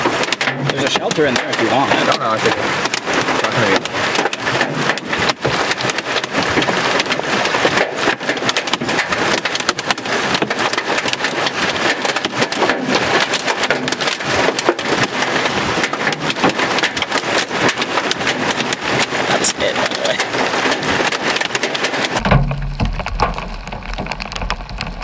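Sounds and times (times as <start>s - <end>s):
hail and rain clattering: 0.0s - 25.0s.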